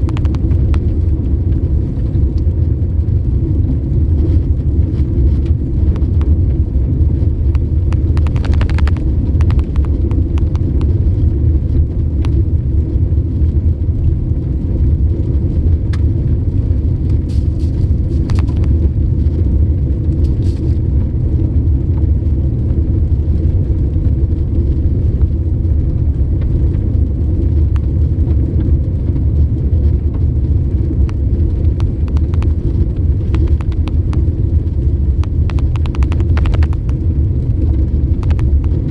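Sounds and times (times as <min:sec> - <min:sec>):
engine and tyre rumble: 0:00.0 - 0:38.9.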